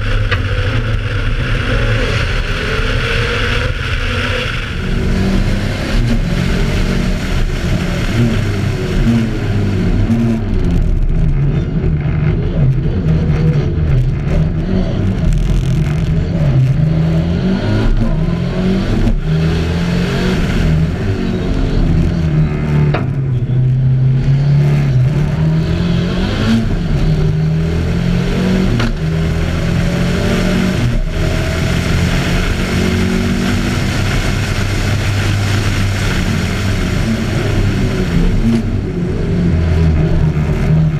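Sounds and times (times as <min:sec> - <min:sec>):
rally car engine accelerating: 0:00.0 - 0:40.9.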